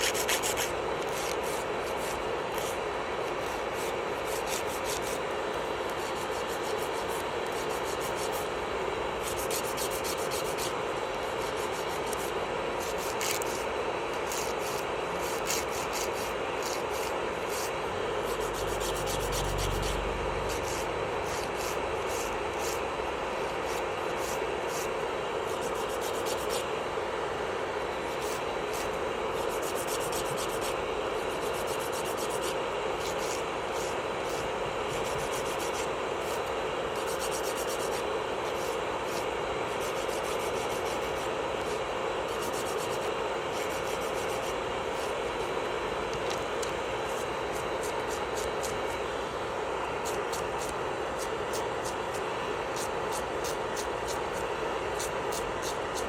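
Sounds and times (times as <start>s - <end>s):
electric nail drill grinding: 0.0s - 8.6s, 9.2s - 26.8s, 27.9s - 56.0s.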